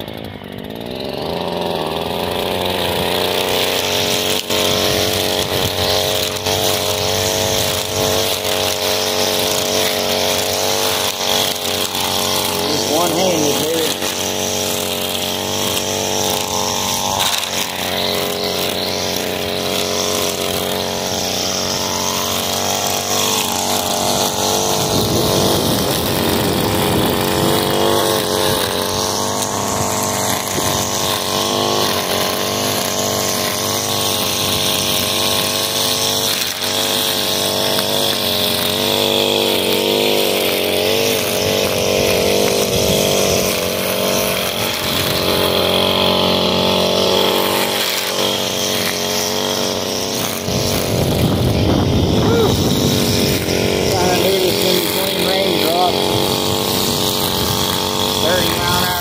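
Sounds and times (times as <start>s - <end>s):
line cutting grass: 0.0s - 59.0s
string trimmer engine revving: 0.0s - 59.0s.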